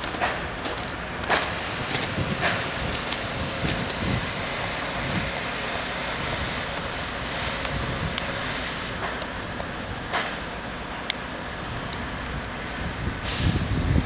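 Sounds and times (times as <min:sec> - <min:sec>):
wind buffeting microphone: 0:00.0 - 0:10.5, 0:11.5 - 0:14.0
road traffic hum: 0:00.0 - 0:14.0.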